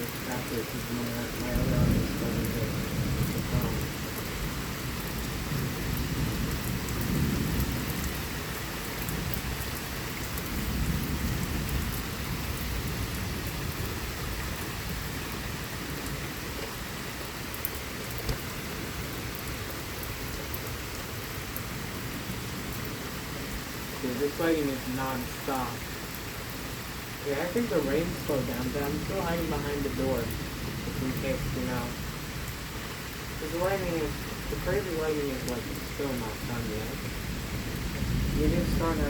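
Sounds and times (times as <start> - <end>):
heavy rain pouring: 0.0 - 39.0
rolling thunder: 0.1 - 17.0, 17.8 - 39.0.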